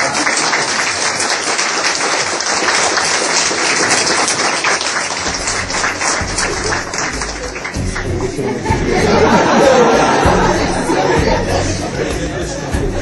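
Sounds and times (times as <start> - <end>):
crowd applauding: 0.0 - 11.8.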